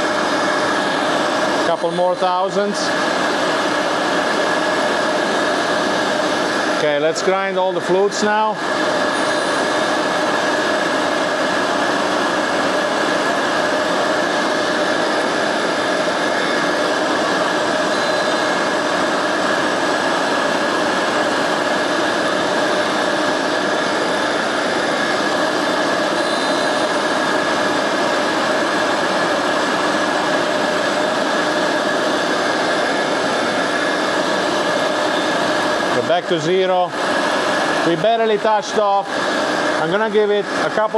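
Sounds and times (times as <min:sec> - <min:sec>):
vacuum running: 0:00.0 - 0:40.9.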